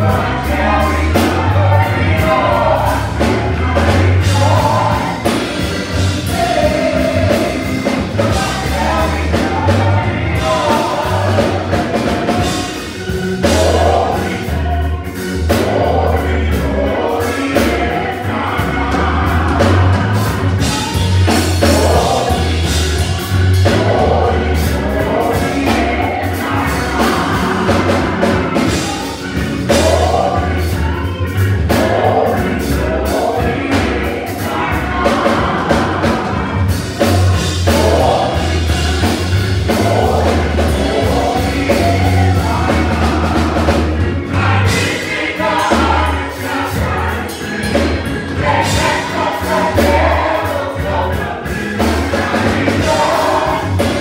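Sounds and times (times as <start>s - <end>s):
gospel group singing: 0.0s - 54.0s
pulsing bass line: 0.0s - 54.0s.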